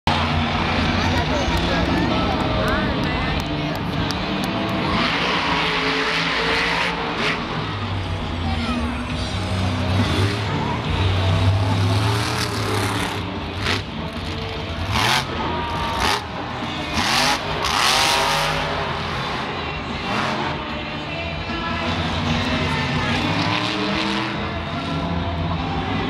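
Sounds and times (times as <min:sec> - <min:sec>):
monster truck engine revving: 0:00.1 - 0:26.0.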